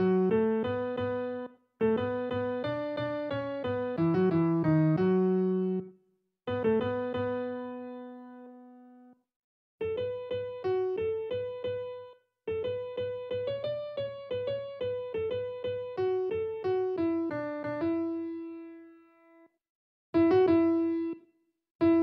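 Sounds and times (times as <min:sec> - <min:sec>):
piano-like melody: 0:00.0 - 0:09.2, 0:09.8 - 0:19.5, 0:20.2 - 0:21.2.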